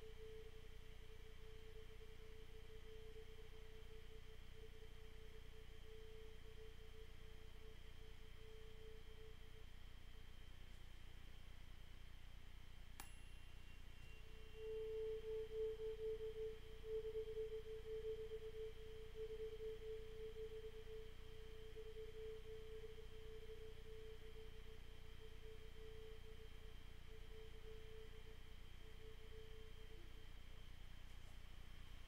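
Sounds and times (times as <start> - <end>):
pure steady ringing tone: 0.0 - 32.0
tuning fork struck: 0.0 - 32.0.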